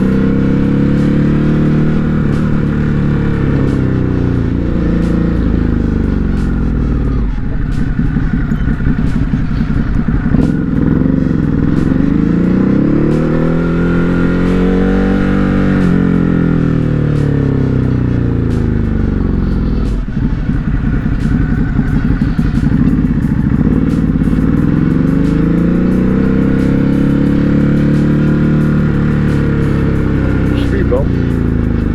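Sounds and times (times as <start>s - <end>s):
motorcycle engine: 0.0s - 31.9s.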